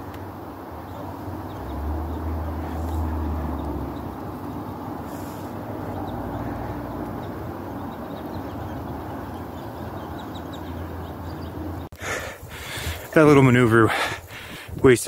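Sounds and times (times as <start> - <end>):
wind rumbling on microphone: 1.3 - 15.0.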